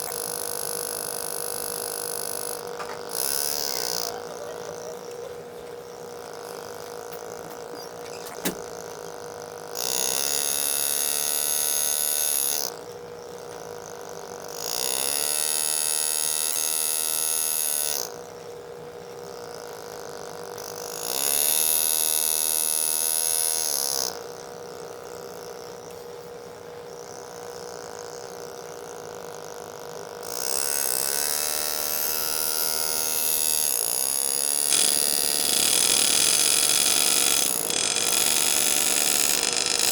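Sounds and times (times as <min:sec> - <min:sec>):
engraving tool buzzing into steel: 0:00.0 - 0:18.3, 0:19.2 - 0:26.1, 0:26.9 - 0:39.9.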